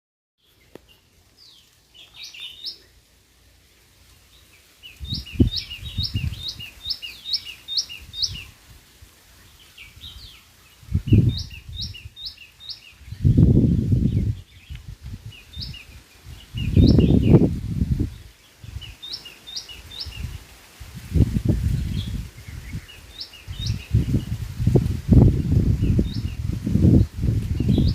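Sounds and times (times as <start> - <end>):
songbirds chirping: 0.4 - 27.9.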